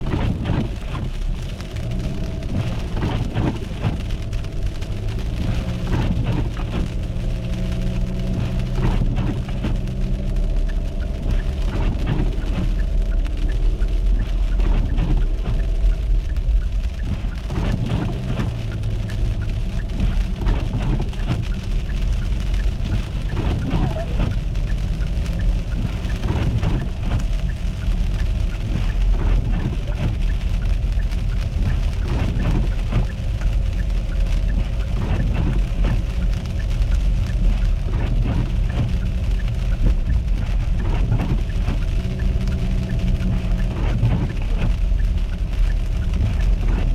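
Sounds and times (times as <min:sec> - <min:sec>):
ice ticks and swishes: 0:00.0 - 0:46.9
road and engine rumble: 0:00.0 - 0:46.9.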